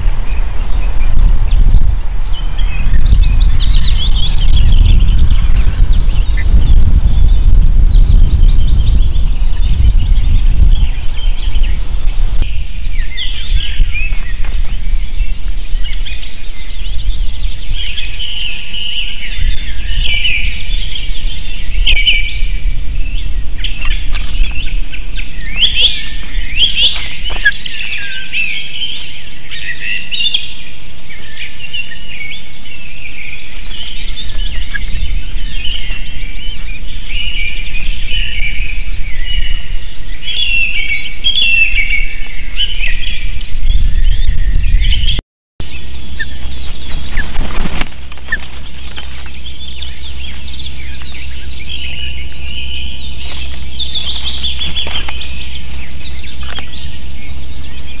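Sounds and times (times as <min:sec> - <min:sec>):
low rumble: 0:00.0 - 0:29.5, 0:32.4 - 0:58.0
rapid high bird chirps: 0:00.0 - 0:58.0.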